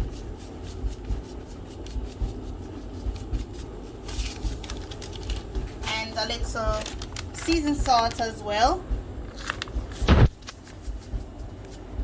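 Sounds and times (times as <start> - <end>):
seasoning shaker shaking: 0.0 - 12.0.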